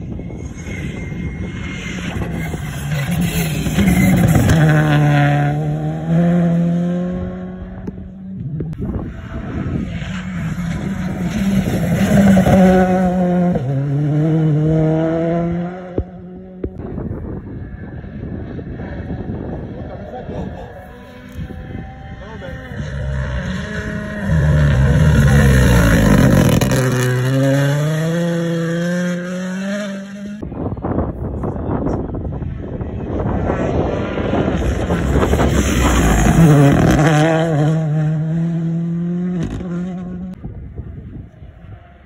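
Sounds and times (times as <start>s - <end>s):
wind buffeting microphone: 0.0s - 28.8s, 30.4s - 38.3s, 38.9s - 42.0s
rally car engine revving: 0.4s - 16.9s, 17.5s - 30.4s, 32.6s - 40.4s.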